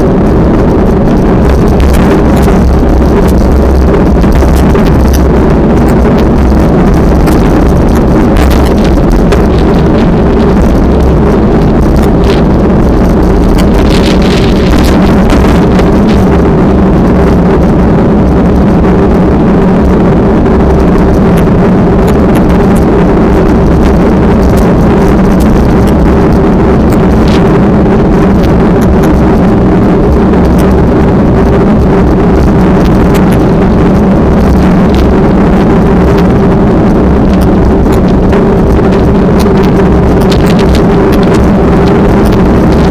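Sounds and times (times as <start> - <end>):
steady engine drone: 0.0 - 42.9
wind buffeting microphone: 0.0 - 42.9.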